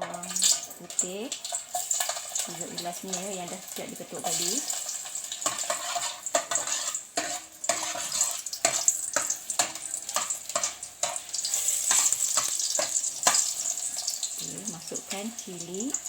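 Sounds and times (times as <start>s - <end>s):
garlic sizzling in hot oil: 0.0s - 16.0s
utensil scraping a pan: 1.4s - 15.7s.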